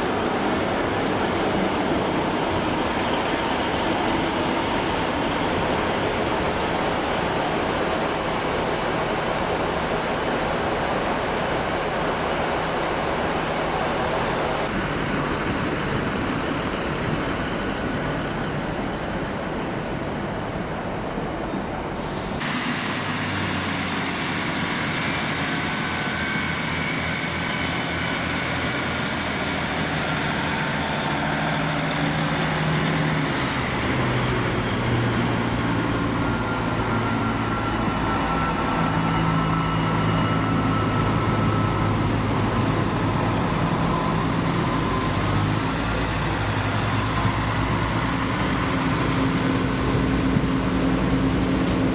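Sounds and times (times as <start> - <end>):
diesel train engines humming: 0.0 - 51.9.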